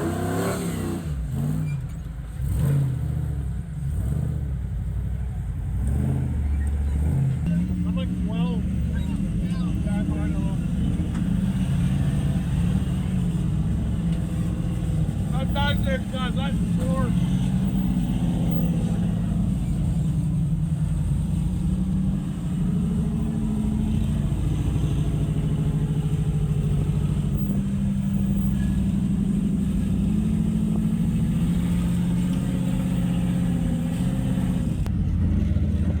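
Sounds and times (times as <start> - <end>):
buggy engine running: 0.0 - 36.0.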